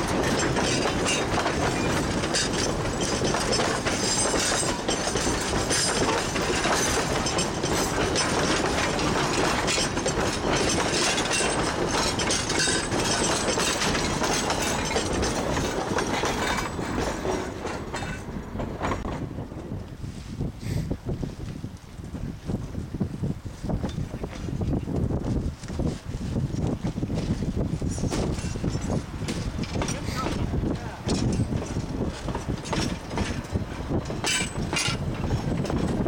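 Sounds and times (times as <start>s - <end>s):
train wheels clattering on rails: 0.0s - 20.0s, 23.7s - 36.0s.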